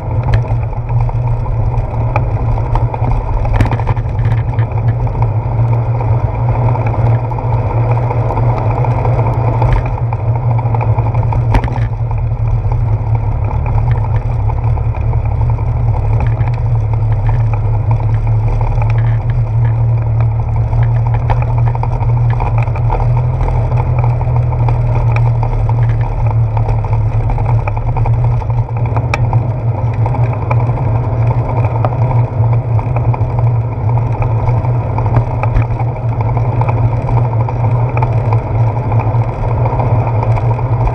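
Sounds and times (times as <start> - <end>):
wind and road rumble: 0.0 - 40.9
faint ticks: 0.2 - 40.9.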